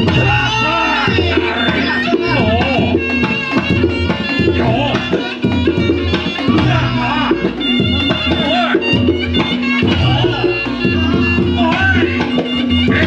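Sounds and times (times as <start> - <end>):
hand drums fast beat: 0.0 - 13.0
wavering melody line: 0.0 - 13.0.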